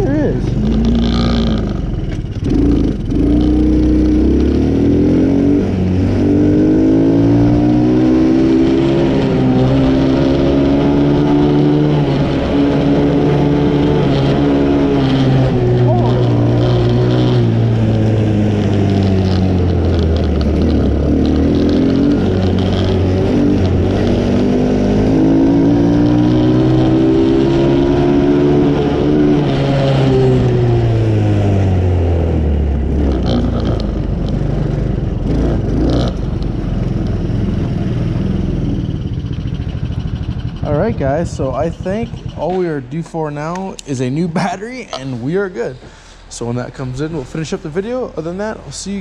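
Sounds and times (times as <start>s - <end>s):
small atv engine revving: 0.0s - 42.7s.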